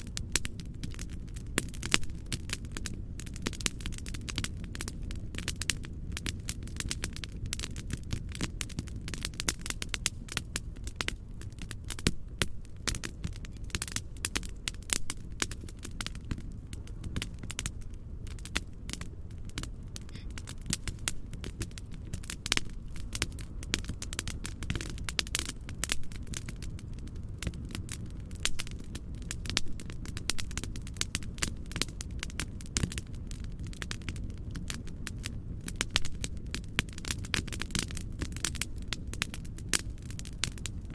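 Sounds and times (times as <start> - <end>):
constant low rumble: 0.0 - 40.9
wood fire crackling and popping: 0.0 - 40.9.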